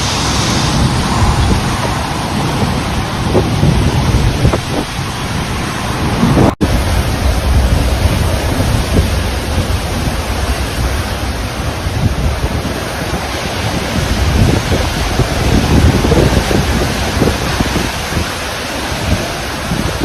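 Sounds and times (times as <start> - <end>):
gale-force wind: 0.0 - 20.0
heavy rain: 0.0 - 20.0
wind buffeting microphone: 0.0 - 20.0.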